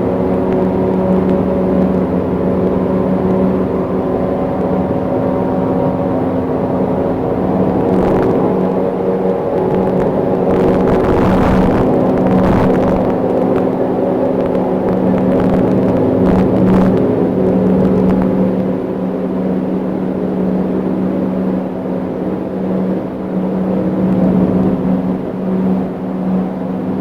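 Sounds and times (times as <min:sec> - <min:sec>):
steady low drone: 0:00.0 - 0:27.0.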